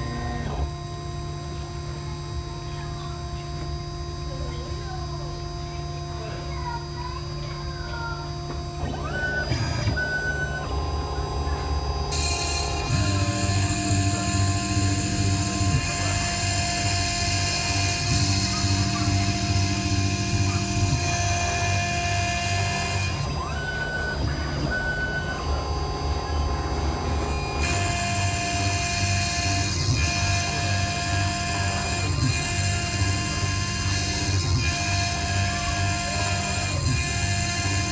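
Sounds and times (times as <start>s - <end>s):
low droning: 0.0s - 1.7s, 5.6s - 37.9s
grinding machine spindle running: 0.0s - 37.9s.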